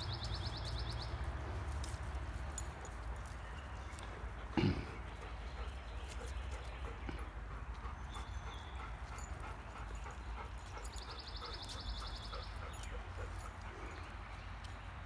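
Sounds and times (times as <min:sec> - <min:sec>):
dogs playing: 0:00.0 - 0:15.0.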